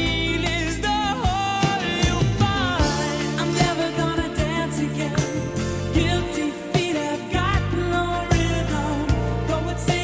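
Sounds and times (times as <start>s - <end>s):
steady bass: 0.0s - 10.0s
drum hits: 1.2s - 10.0s.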